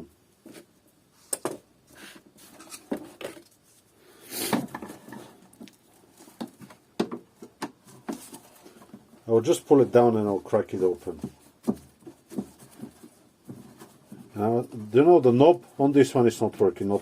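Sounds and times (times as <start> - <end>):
hands handling objects: 0.4 - 17.0.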